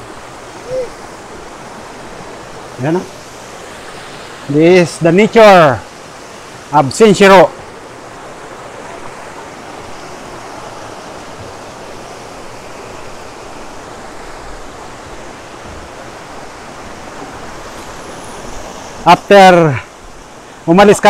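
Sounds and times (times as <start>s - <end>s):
stream water running: 0.0s - 21.0s.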